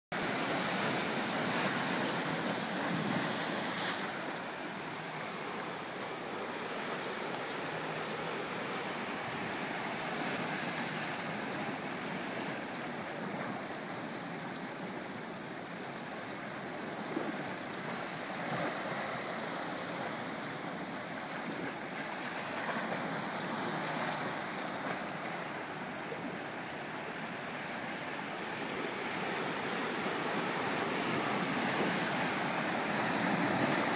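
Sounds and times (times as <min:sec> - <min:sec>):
surf washing over rocks: 0:00.1 - 0:33.9.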